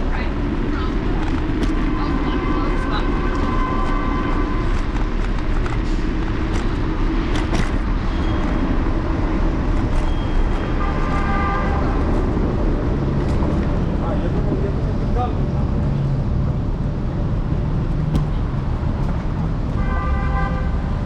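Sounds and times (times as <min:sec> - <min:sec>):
road and wind rumble: 0:00.0 - 0:21.0
street traffic: 0:00.0 - 0:21.0.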